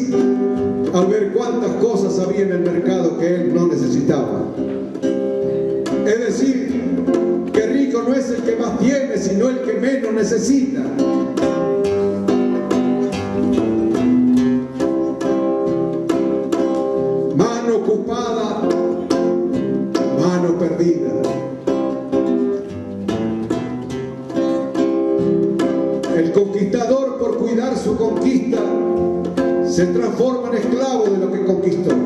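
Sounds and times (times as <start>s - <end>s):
strummed string instrument: 0.0s - 32.0s.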